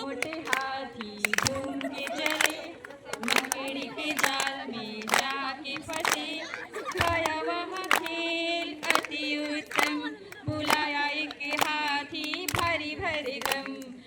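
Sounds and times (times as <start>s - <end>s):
group singing unaccompanied: 0.0s - 14.0s
hand clapping: 0.2s - 13.9s.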